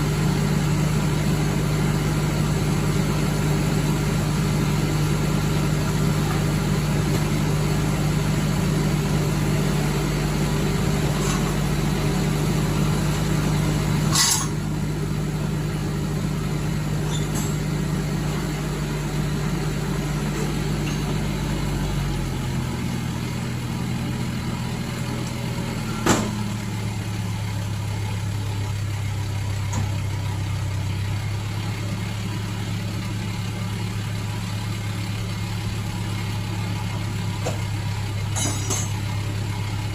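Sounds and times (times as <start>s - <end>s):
lorry engine running: 0.0s - 39.9s.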